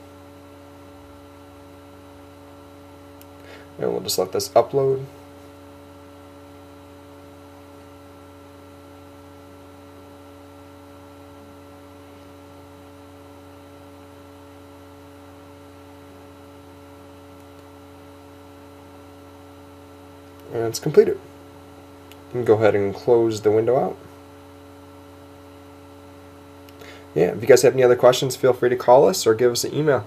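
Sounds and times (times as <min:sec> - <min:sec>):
electrical hum with hiss: 0:00.0 - 0:30.0.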